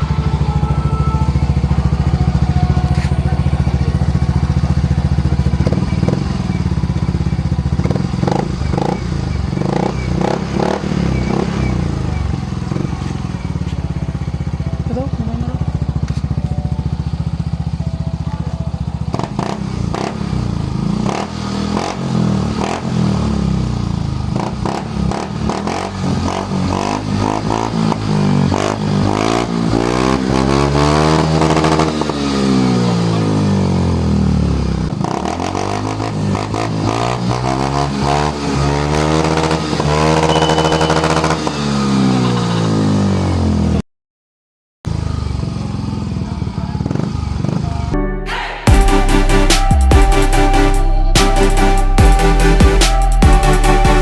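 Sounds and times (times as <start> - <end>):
scooter engine revving: 0.0 - 43.8, 44.9 - 47.9.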